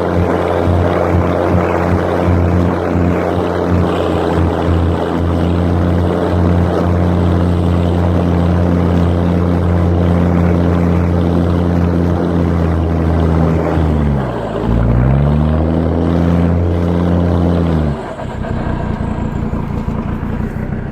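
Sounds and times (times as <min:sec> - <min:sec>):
car engine running: 0:00.0 - 0:20.9.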